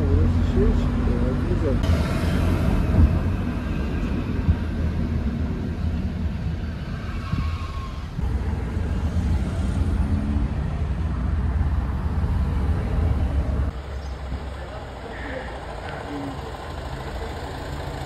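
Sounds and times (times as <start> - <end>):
car road noise: 0.0 - 18.0.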